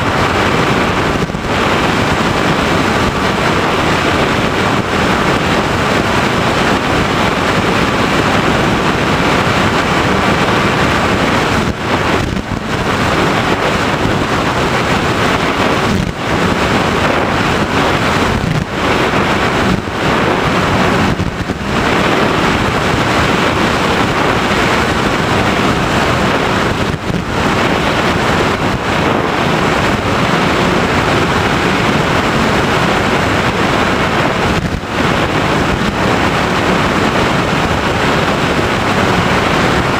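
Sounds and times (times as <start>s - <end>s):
motor and propeller whine: 0.0s - 39.9s
wind rush on microphone: 0.0s - 39.9s.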